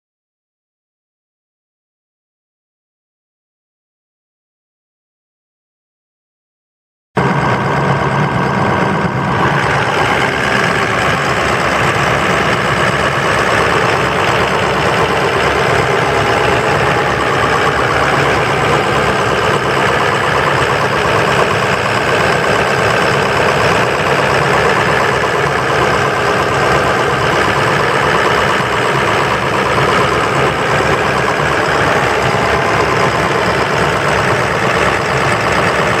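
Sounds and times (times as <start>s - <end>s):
diesel engine idling with clatter: 7.2s - 36.0s.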